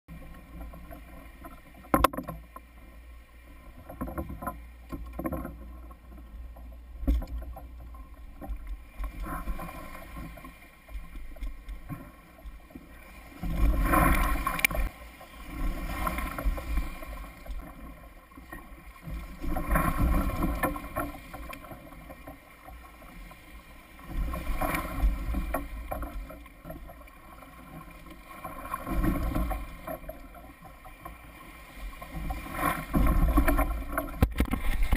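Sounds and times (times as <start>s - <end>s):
water splashing against kayak: 0.1s - 34.9s.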